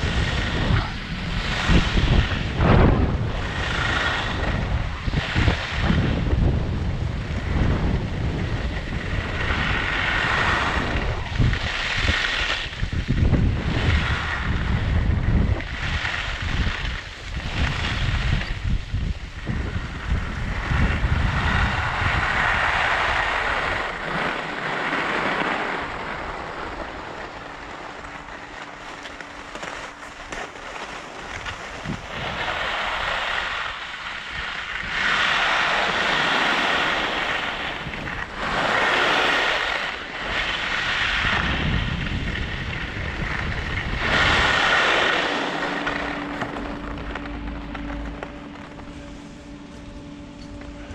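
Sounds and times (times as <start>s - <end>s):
wind rushing over microphone: 0.0s - 50.9s
skis swishing on snow: 8.5s - 18.8s, 19.4s - 50.1s.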